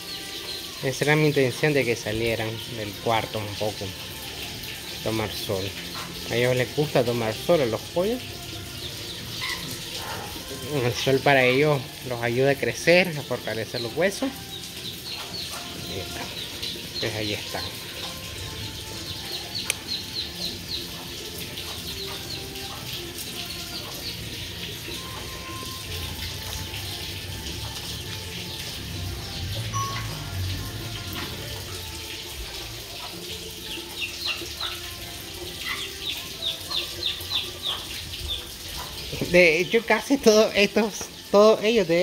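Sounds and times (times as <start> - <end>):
chicks peeping: 0.0 - 11.9, 13.0 - 31.8, 32.4 - 40.1.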